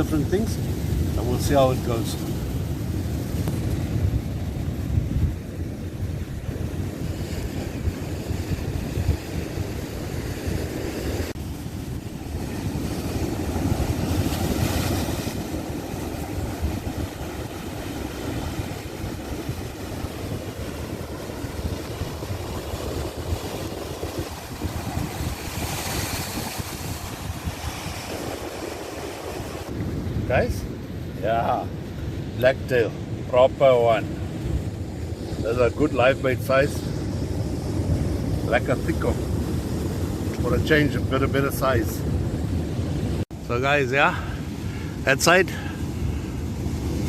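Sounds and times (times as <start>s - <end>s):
surf on rocky shore: 0.0s - 47.0s
wind buffeting microphone: 0.0s - 47.0s.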